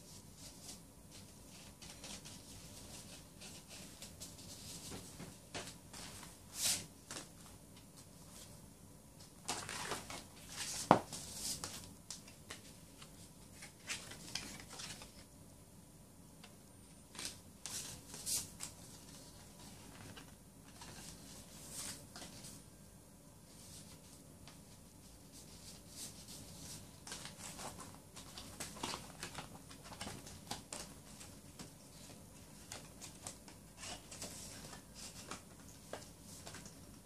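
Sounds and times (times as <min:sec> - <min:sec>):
cardboard and paper rustling: 0:00.0 - 0:07.6, 0:09.4 - 0:15.3, 0:17.1 - 0:22.6, 0:23.5 - 0:37.0.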